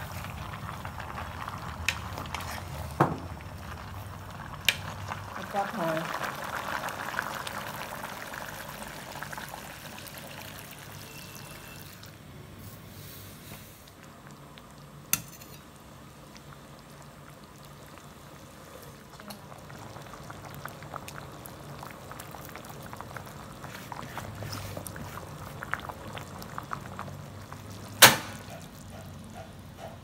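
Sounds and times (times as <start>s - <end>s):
soup bubbling with small pops: 0.0s - 12.2s, 13.8s - 29.2s.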